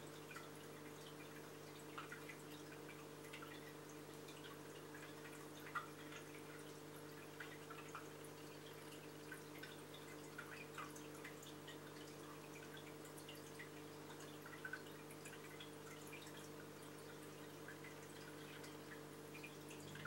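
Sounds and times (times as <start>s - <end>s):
aquarium filter pump hum: 0.0s - 20.0s
aquarium water trickling and dripping: 0.0s - 20.0s.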